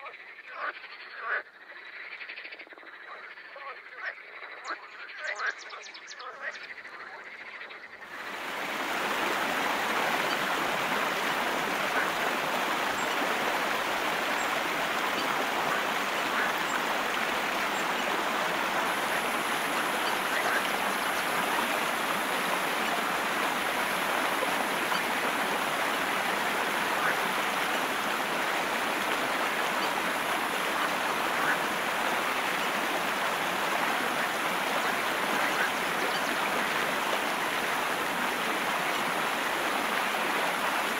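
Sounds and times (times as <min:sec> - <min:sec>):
stream running over rocks: 0:08.0 - 0:40.9.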